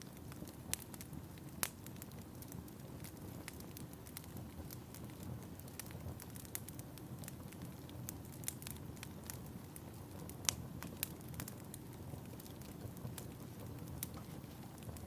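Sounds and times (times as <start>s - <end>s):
low fire rumble: 0.0s - 15.0s
wood fire popping and snapping: 0.0s - 15.0s.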